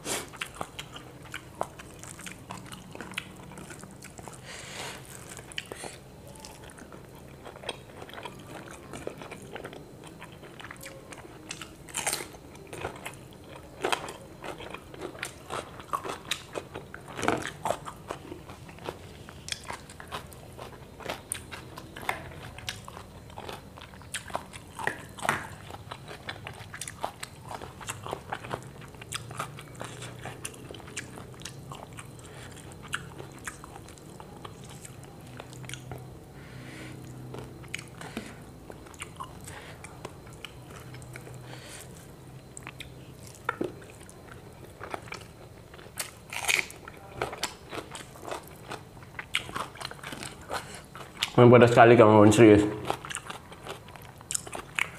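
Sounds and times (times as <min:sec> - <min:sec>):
person chewing: 0:00.0 - 0:51.4, 0:52.8 - 0:54.9.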